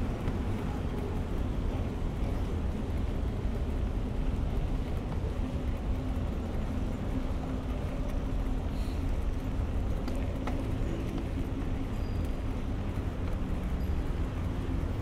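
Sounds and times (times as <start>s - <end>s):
city traffic rumble: 0.0s - 15.0s
faint engine hum: 0.0s - 15.0s.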